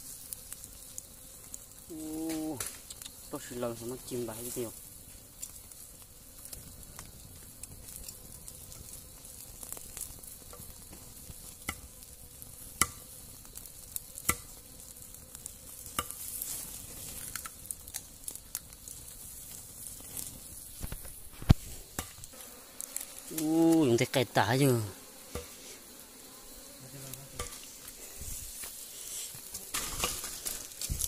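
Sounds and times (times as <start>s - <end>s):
campfire crackling and popping: 0.0s - 25.6s, 27.0s - 31.0s.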